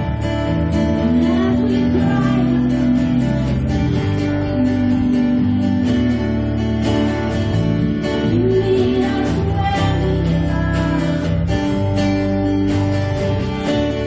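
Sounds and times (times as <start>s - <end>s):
bass line: 0.0s - 14.0s
guitar: 0.0s - 14.0s
live band playing worship music: 0.0s - 14.0s.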